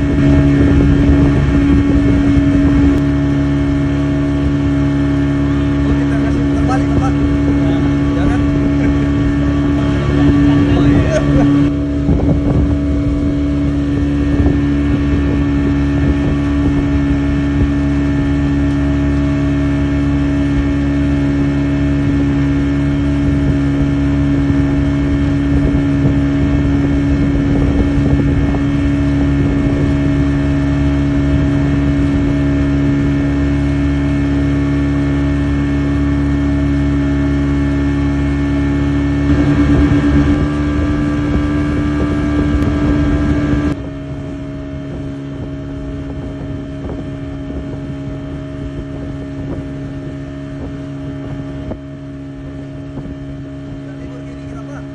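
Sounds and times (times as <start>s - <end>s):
motorboat engine running: 0.0s - 54.9s
wind buffeting microphone: 0.0s - 54.9s.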